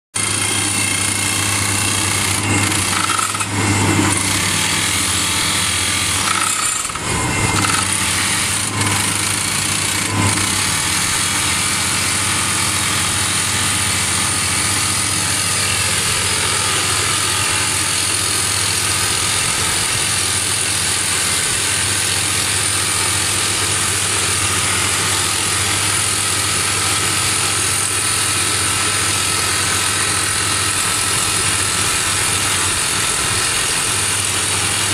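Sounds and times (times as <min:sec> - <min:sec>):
diesel engine running: 0:00.2 - 0:34.9
rock drill hammering: 0:00.2 - 0:34.9.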